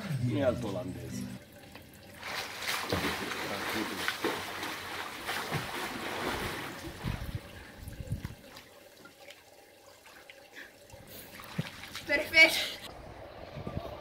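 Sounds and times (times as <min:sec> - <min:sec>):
swimmer splashing water: 0:01.4 - 0:14.0.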